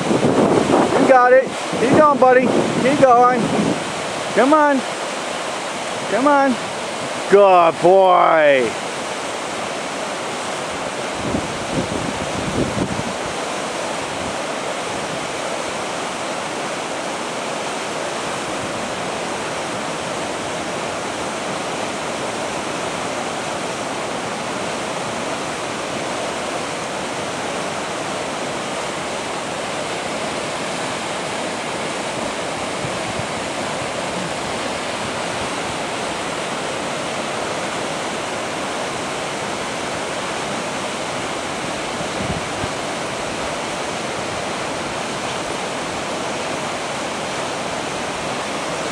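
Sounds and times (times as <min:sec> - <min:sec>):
river rapids rushing: 0:00.0 - 0:48.9.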